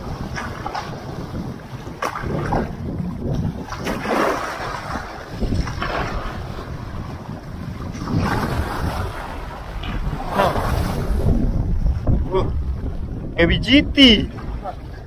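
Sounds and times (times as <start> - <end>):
waves sloshing and lapping: 0.0 - 15.0
wind gusts on microphone: 0.0 - 15.0.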